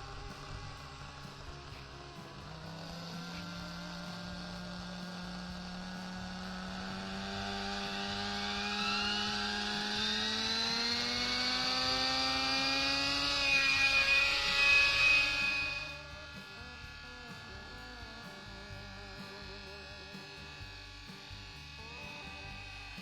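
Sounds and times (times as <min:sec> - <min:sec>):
model helicopter engine spooling up: 0:00.0 - 0:23.0.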